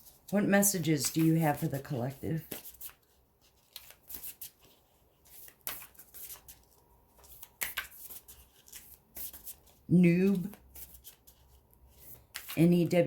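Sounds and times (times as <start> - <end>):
cards being shuffled: 1.0 - 12.9.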